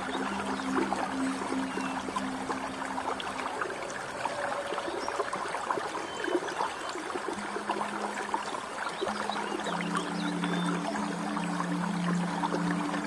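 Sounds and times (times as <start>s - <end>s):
stream flowing over stones: 0.0s - 13.0s.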